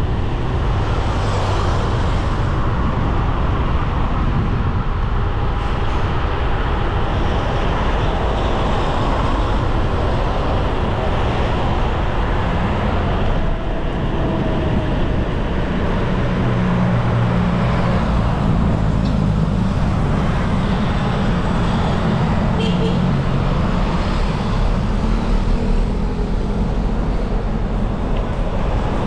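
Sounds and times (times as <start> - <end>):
motor traffic: 0.0 - 29.0
wind and road noise from bike: 0.0 - 29.0.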